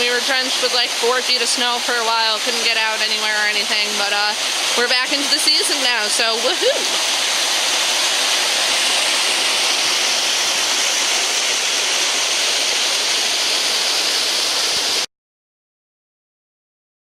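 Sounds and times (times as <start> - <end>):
brook water rushing: 0.0 - 15.1.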